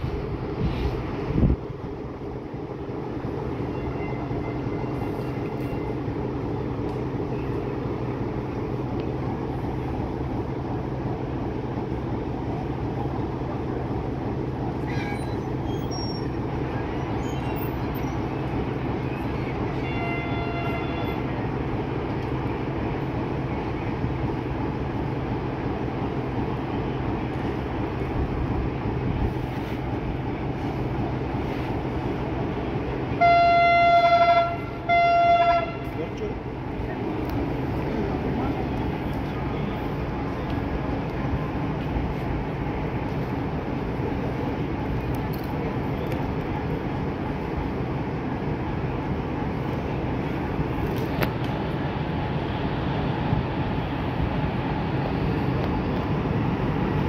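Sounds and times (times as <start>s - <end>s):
electric locomotive humming: 0.0s - 57.0s.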